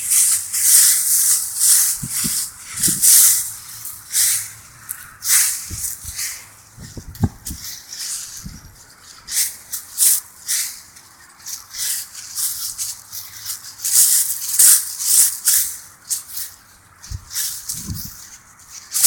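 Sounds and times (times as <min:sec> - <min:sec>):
rustling and crunching: 0:00.0 - 0:19.0.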